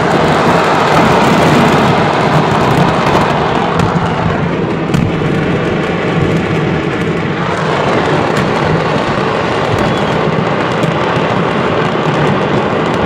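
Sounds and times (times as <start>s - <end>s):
low rumble: 0.0s - 10.6s
fireworks crackling and popping: 0.0s - 13.0s
sharp firework bang: 0.0s - 13.0s.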